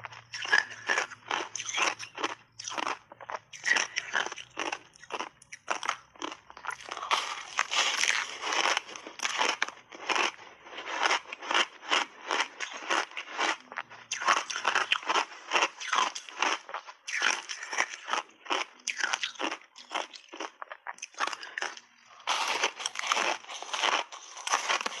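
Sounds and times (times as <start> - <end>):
ice being chewed: 0.0 - 25.0.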